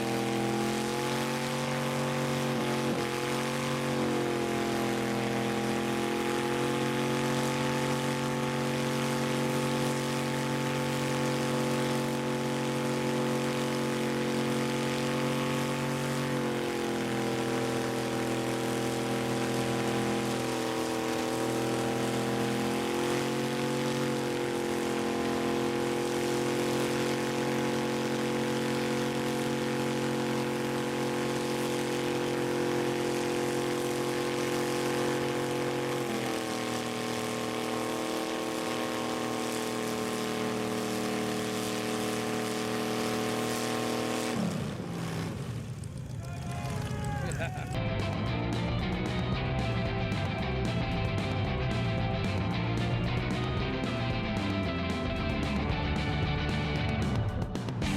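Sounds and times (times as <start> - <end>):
engine running: 0.0 - 57.9.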